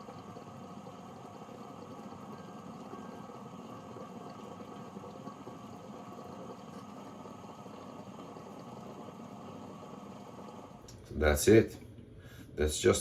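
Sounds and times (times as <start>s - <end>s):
espresso machine pump running: 0.0s - 11.0s.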